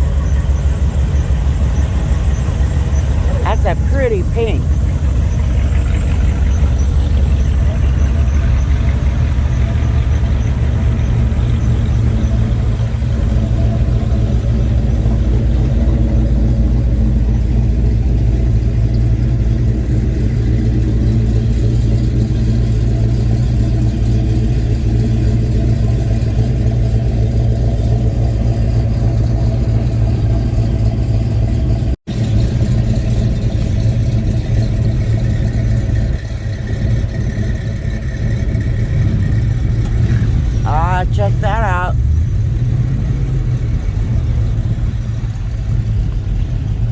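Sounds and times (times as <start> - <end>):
car engine running steadily: 0.0 - 46.9.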